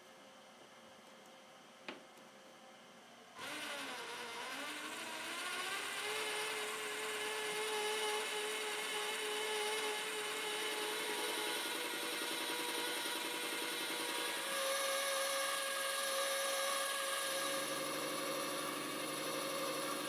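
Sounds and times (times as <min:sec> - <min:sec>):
electric power tool whine: 0:03.4 - 0:20.0.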